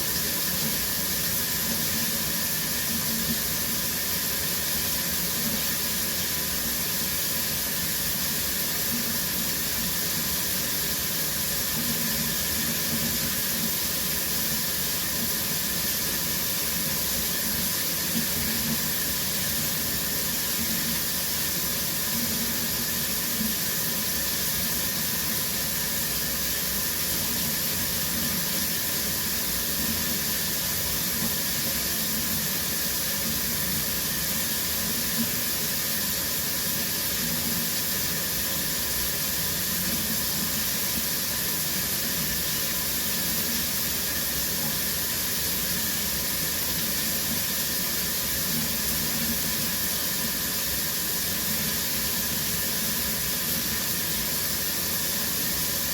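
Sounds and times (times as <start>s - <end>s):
shower running: 0.0s - 55.9s.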